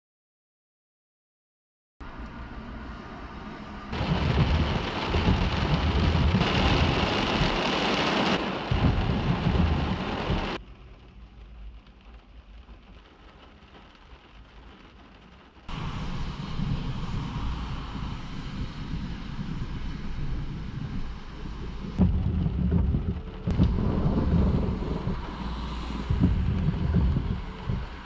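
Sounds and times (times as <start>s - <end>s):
rain pelting car roof: 3.9s - 28.0s.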